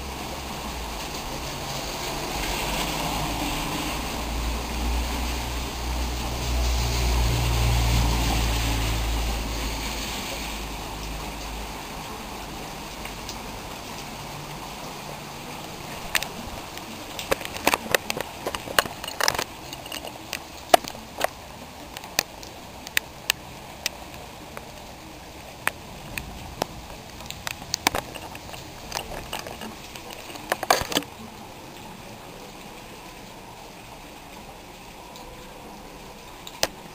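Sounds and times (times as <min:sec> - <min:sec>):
heavy rain on flooded street: 0:00.0 - 0:36.9.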